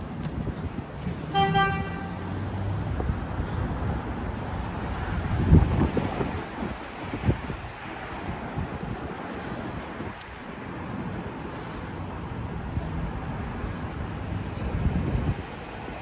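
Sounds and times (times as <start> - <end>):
city street traffic: 0.0 - 16.0
wind buffeting microphone: 0.0 - 16.0.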